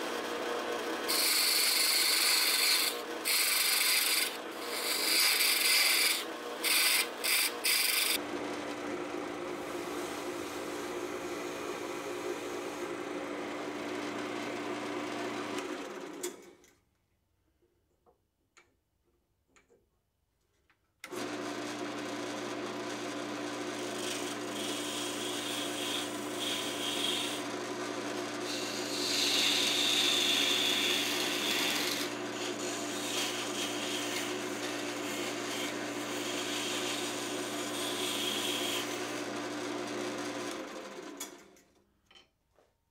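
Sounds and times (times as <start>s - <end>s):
chisel cutting spinning wood: 0.0s - 16.2s, 21.1s - 41.3s
lathe motor hum: 0.0s - 16.3s, 21.1s - 41.2s.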